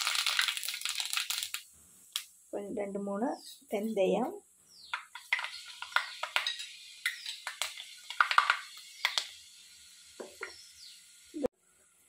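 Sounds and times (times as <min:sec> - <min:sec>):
seeds popping in hot oil: 0:00.0 - 0:02.5, 0:04.8 - 0:12.0.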